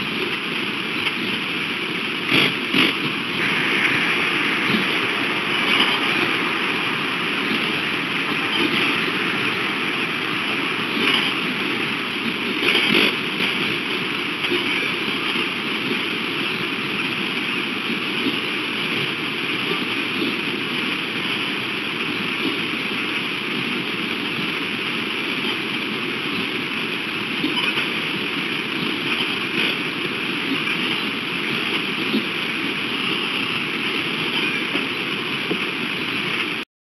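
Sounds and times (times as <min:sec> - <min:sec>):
stream water rushing: 0:00.0 - 0:36.6.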